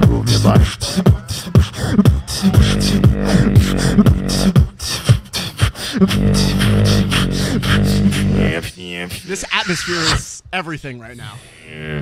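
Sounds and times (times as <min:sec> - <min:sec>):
held vocal bass tone: 0:00.0 - 0:05.3, 0:05.9 - 0:10.4
vocal kick drums: 0:00.0 - 0:10.3.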